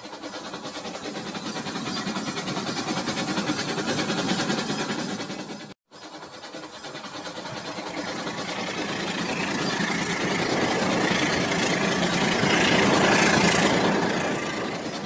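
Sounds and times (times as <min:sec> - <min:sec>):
toy train motors whirring: 0:00.0 - 0:15.0
toy train wheels clattering: 0:00.0 - 0:15.0.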